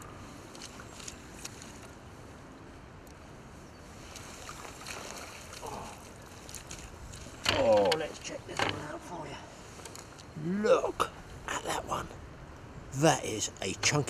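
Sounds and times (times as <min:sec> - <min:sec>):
wind and water hiss: 0:00.0 - 0:14.0.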